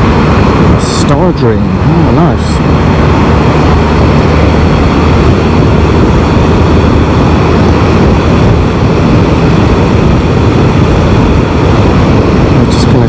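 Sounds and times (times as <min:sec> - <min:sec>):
motorcycle engine and road noise: 0:00.0 - 0:13.0
wind on microphone: 0:00.0 - 0:13.0.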